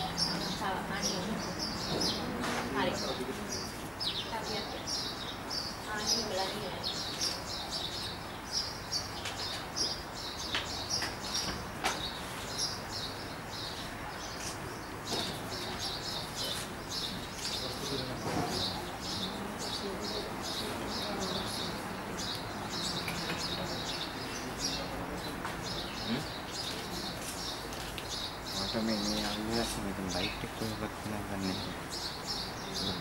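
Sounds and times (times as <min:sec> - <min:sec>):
small birds twittering: 0:00.0 - 0:33.0.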